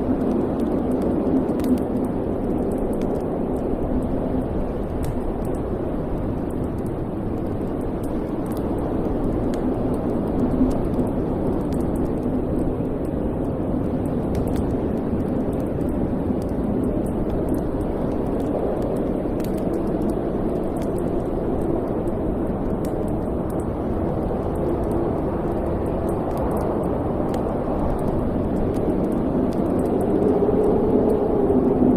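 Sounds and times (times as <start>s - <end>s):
fire crackling and popping: 0.0s - 31.9s.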